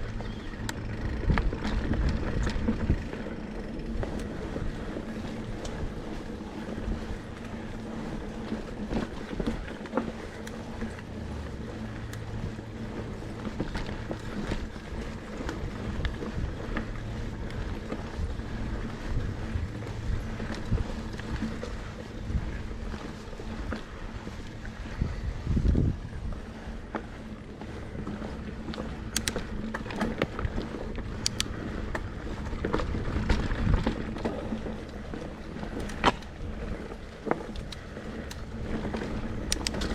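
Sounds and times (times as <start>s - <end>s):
wind on microphone: 0.0s - 27.0s, 29.1s - 39.9s
bike clicks and knocks: 0.0s - 39.9s
bike tyres rumbling on dirt: 0.0s - 39.9s.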